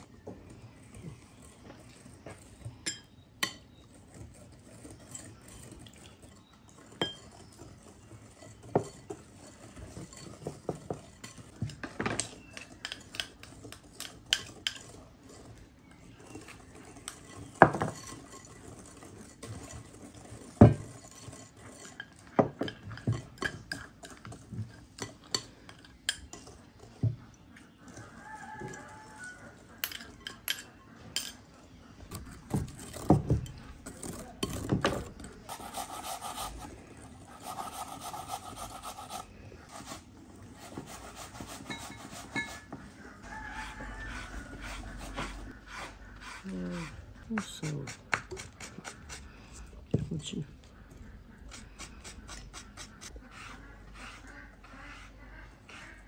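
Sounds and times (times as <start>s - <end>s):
whisk stirring in glass bowl: 0.0s - 31.3s, 32.1s - 49.8s.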